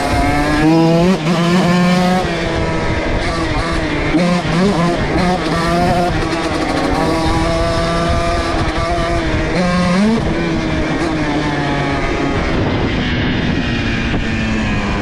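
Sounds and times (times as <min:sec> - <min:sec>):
two-stroke dirt bike engine revving: 0:00.0 - 0:15.0.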